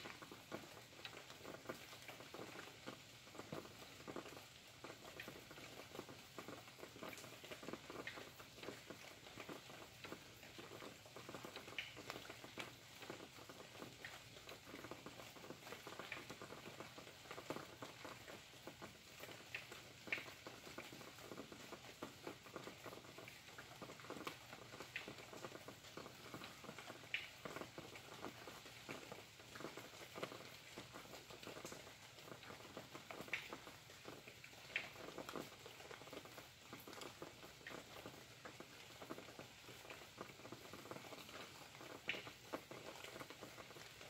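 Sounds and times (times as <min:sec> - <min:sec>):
faint rain pattering: 0:00.0 - 0:44.0
raindrops ticking: 0:00.0 - 0:44.0.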